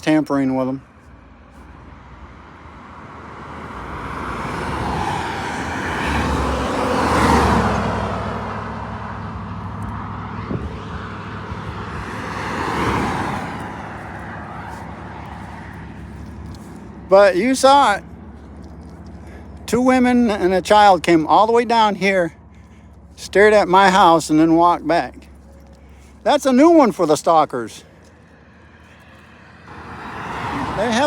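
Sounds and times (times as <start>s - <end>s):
vehicles driving past: 0.0s - 31.0s.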